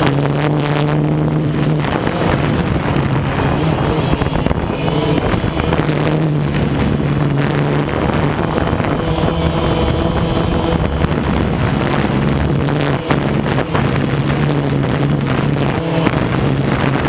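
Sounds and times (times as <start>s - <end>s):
road noise: 0.0s - 17.0s
vehicle engine running: 0.0s - 17.0s
wind noise on microphone: 0.0s - 17.0s.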